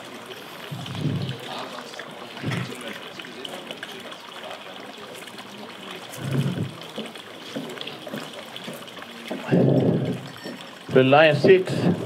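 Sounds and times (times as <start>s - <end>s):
low murmur: 0.0s - 12.0s
water trickling: 0.0s - 12.0s.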